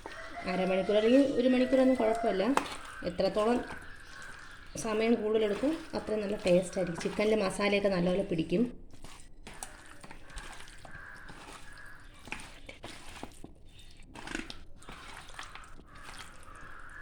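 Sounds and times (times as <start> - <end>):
hands squelching marinade: 0.0 - 17.0.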